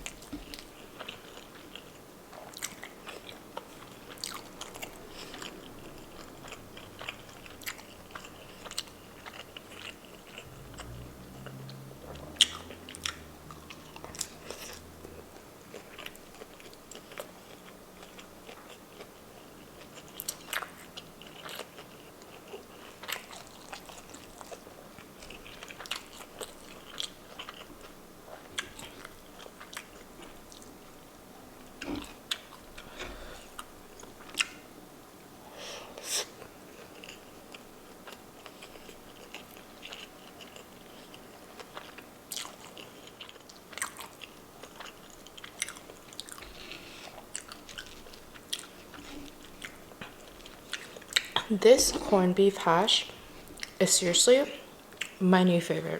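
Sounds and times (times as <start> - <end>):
person chewing food: 0.0 - 34.8, 35.4 - 53.8, 54.6 - 55.2.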